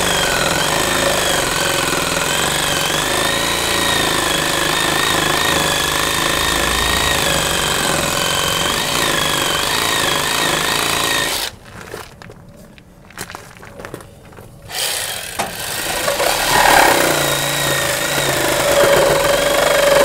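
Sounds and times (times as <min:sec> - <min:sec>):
reciprocating saw cutting wood: 0:00.0 - 0:11.6, 0:14.7 - 0:20.0.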